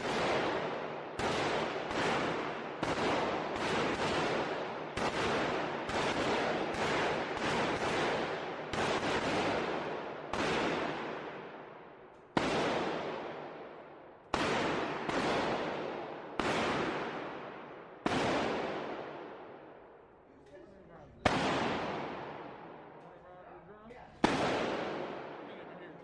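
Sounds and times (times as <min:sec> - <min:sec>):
echoing gunshots: 0:00.0 - 0:20.1, 0:21.1 - 0:23.3, 0:24.1 - 0:26.0.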